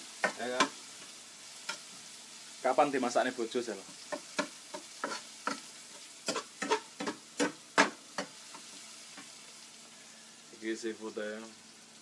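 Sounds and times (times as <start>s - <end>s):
faint frying sizzle: 0.0s - 12.0s.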